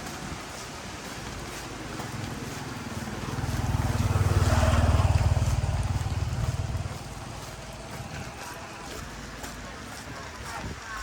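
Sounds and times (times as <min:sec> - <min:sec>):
motor engine passing by: 0:01.0 - 0:10.0.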